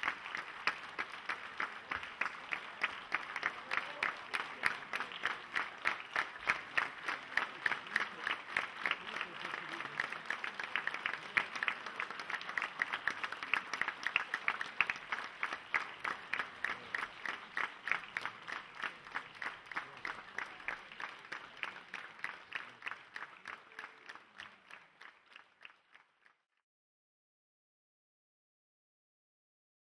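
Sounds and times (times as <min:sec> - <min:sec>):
audience applauding: 0:00.0 - 0:26.4.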